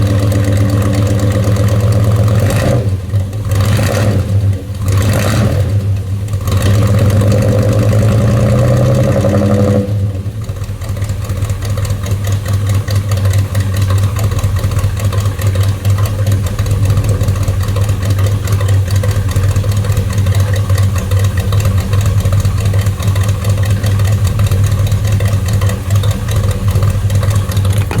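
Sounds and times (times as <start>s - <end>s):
truck engine revving and idling: 0.0s - 28.0s.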